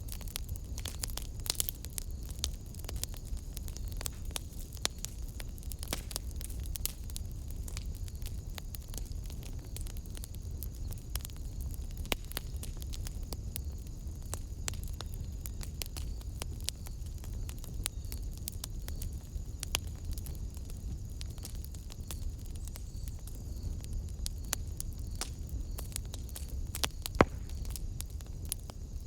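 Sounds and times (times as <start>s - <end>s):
fire popping and crackling: 0.0s - 29.0s
fire rumbling: 0.0s - 29.0s.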